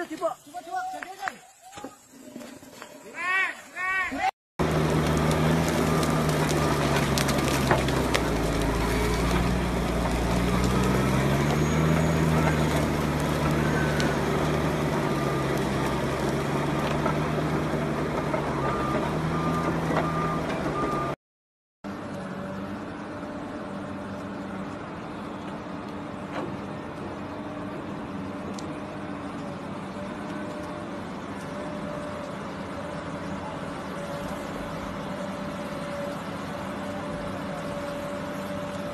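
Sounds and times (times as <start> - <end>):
dozer diesel engine under load: 4.6 - 21.2, 21.9 - 38.9
excavator diesel engine running: 4.6 - 21.2, 21.9 - 38.9.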